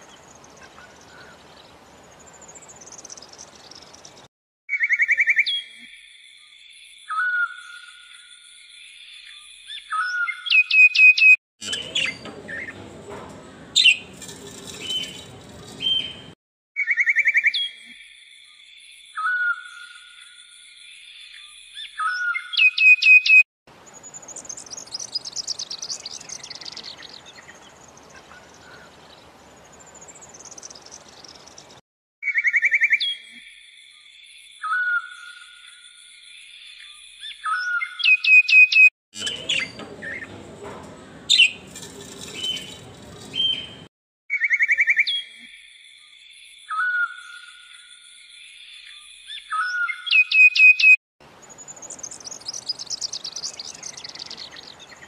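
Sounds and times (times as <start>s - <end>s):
bird chirps and trills: 7.0s - 17.8s, 19.1s - 33.2s, 34.6s - 45.3s, 46.0s - 55.0s.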